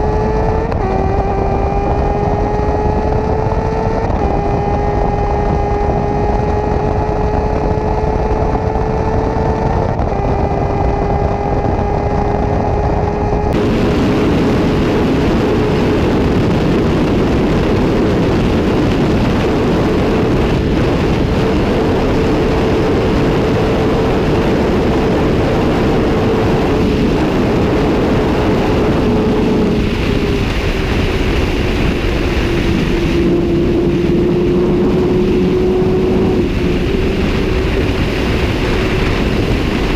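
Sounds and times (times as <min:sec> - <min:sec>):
motorcycle engine at high revs: 0:00.0 - 0:39.9
wind rush on microphone: 0:00.0 - 0:39.9.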